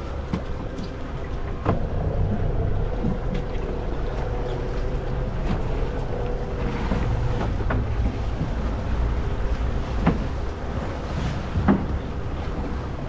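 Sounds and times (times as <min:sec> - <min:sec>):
low rumble: 0:00.0 - 0:13.0
water washing along boat hull: 0:00.0 - 0:13.0
wind buffeting microphone: 0:00.0 - 0:13.0.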